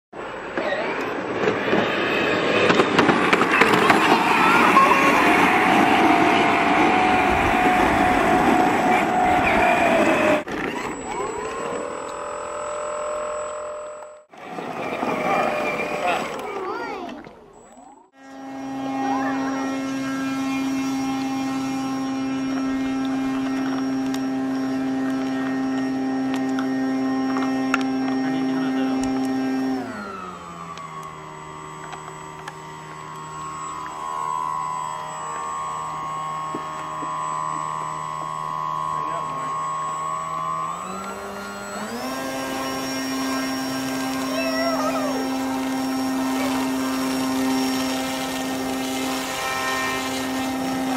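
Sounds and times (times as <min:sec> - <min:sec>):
model airplane motor humming: 0:00.4 - 0:50.9.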